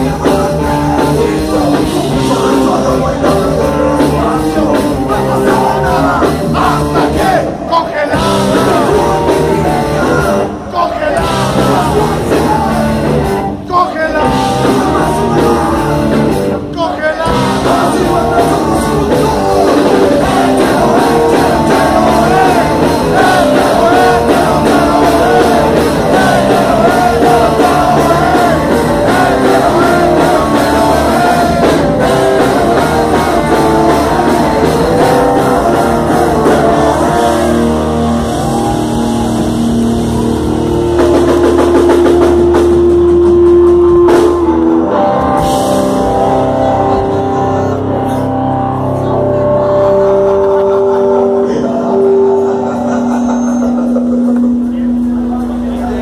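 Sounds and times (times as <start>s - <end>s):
drum kit: 0.0s - 48.8s, 49.6s - 56.0s
person singing: 0.0s - 55.0s
electric guitars: 0.0s - 56.0s.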